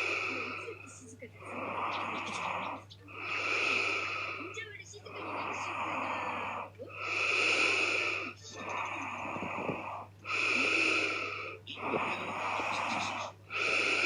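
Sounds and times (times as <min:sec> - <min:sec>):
quiet breaths: 0:00.0 - 0:14.0
woman snoring loudly: 0:01.4 - 0:04.5, 0:05.2 - 0:14.0.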